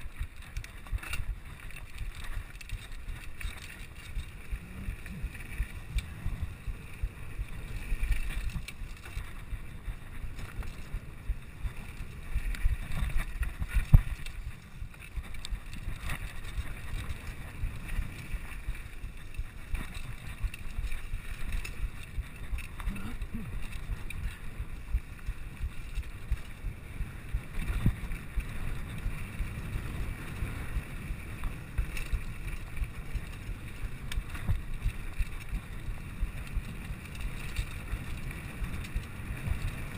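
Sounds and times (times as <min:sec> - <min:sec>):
bike rattling and knocking: 0:00.0 - 0:39.9
tyres rolling on dirt: 0:00.0 - 0:39.9
wind rumble on microphone: 0:00.0 - 0:39.9.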